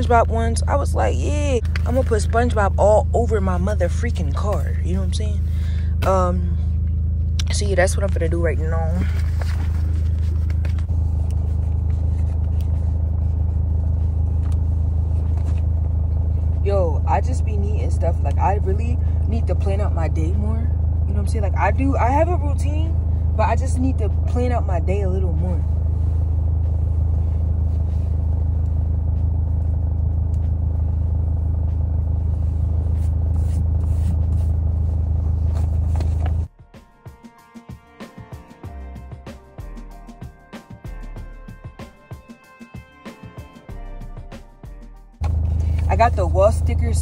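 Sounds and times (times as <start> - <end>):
car idling: 0.0 - 36.6, 43.8 - 47.0.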